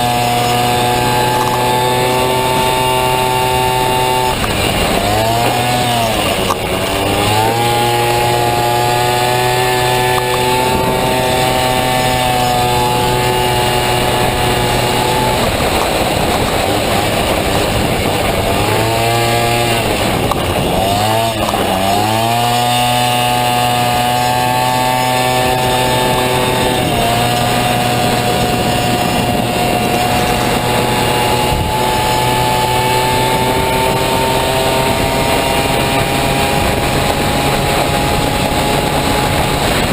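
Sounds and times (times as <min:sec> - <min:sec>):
scooter engine revving: 0:00.0 - 0:39.9.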